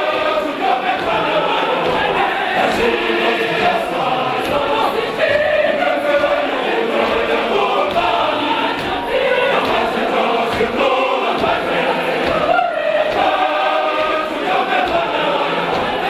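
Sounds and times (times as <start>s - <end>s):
church choir singing: 0.0s - 16.0s.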